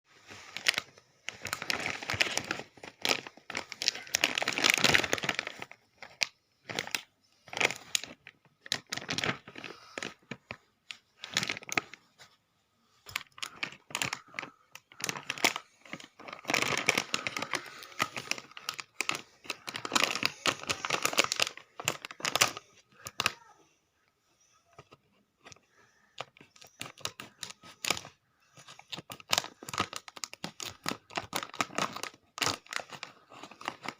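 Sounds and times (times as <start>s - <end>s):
chip bag crinkling: 0.3s - 12.0s, 13.1s - 23.1s, 26.4s - 33.9s.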